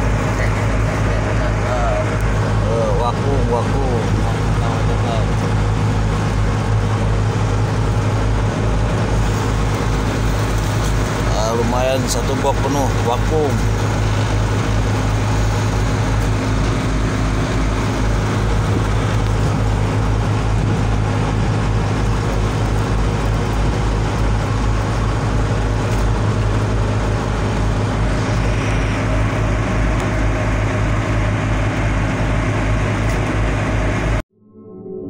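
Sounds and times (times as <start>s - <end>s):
boat engine running: 0.0s - 34.2s.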